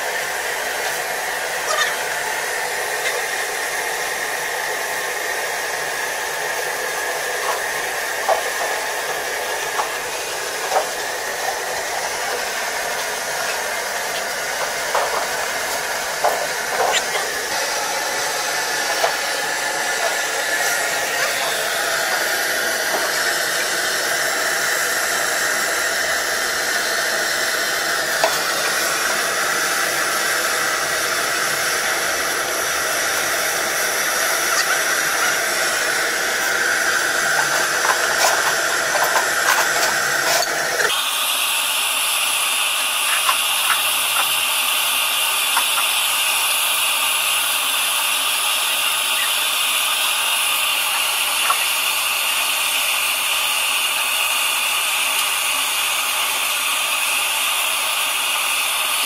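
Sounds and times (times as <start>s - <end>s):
gas torch flame hissing: 0.0s - 59.0s.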